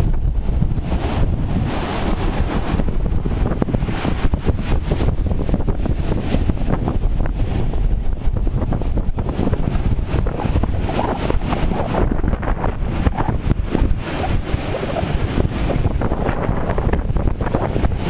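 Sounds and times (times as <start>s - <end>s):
storm surf breaking: 0.0s - 18.0s
strong wind buffeting microphone: 0.0s - 18.0s.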